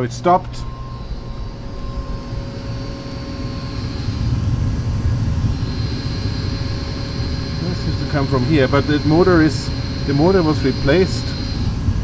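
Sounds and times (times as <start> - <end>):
faint whining tones: 0.0 - 12.0
furnace low rumble: 0.0 - 12.0.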